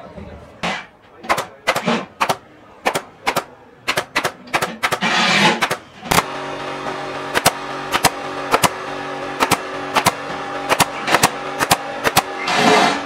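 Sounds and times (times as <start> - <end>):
pneumatic staple gun firing: 1.3 - 13.0
steady hum: 1.8 - 13.0.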